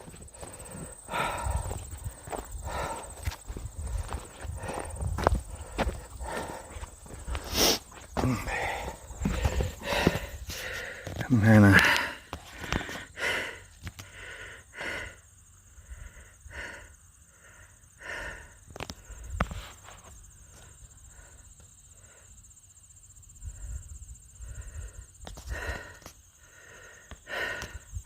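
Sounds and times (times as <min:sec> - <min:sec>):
person breathing heavily: 0:00.0 - 0:19.8, 0:20.4 - 0:22.4, 0:23.4 - 0:28.0.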